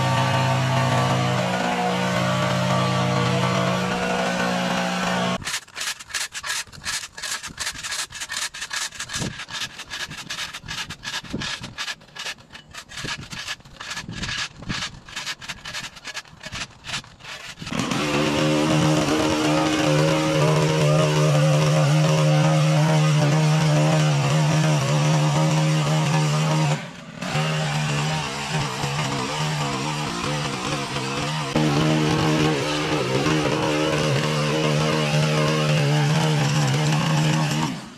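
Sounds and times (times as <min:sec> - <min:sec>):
blade scraping concrete: 0:00.0 - 0:37.9
yard power tool engine: 0:00.0 - 0:37.9.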